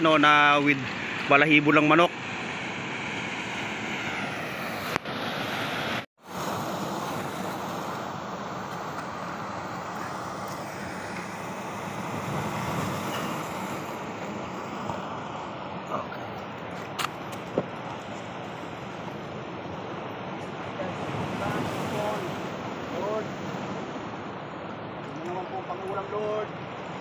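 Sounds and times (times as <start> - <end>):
ocean surf on rocks: 0.0 - 27.0.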